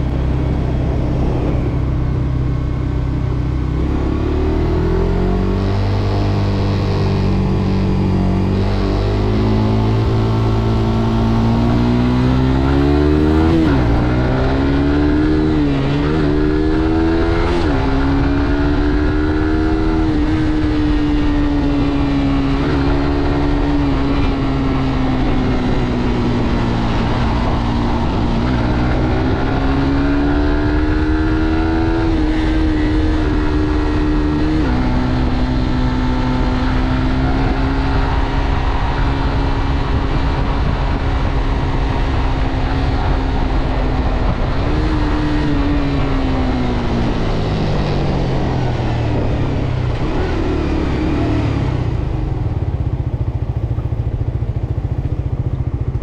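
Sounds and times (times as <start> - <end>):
motorcycle engine with upshifts: 0.0 - 56.0.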